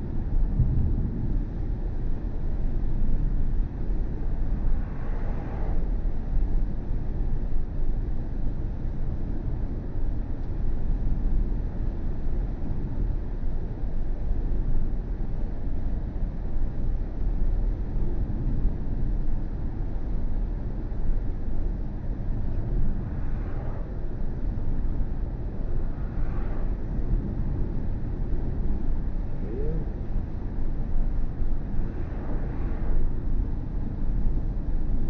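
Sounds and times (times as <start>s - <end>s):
road and tyre rumble: 0.0s - 35.0s.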